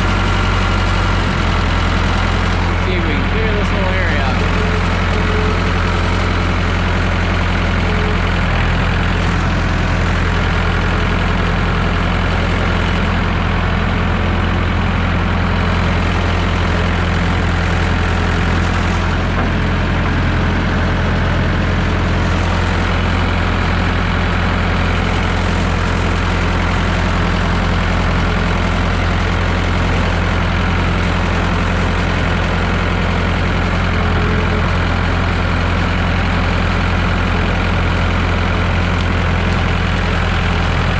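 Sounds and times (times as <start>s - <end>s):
tractor engine idling: 0.0s - 40.9s.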